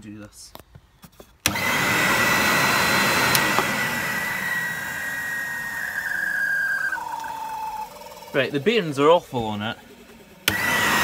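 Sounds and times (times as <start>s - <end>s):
vacuum cleaner motor whining: 1.4s - 11.0s.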